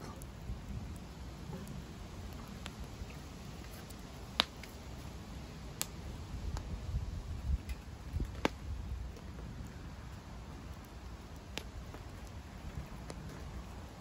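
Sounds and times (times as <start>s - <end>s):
sharp pops from burning logs: 0.0s - 14.0s
wood fire crackling: 0.0s - 14.0s.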